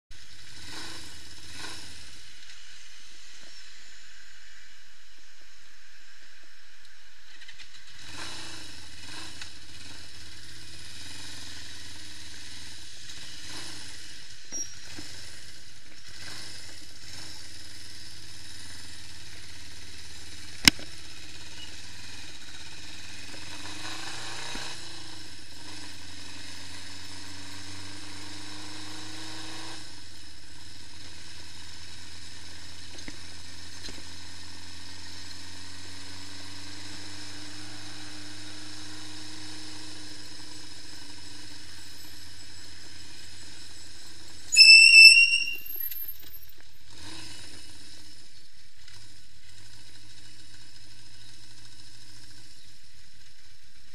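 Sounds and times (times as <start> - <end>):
motorcycle engine running: 0.1 - 53.9.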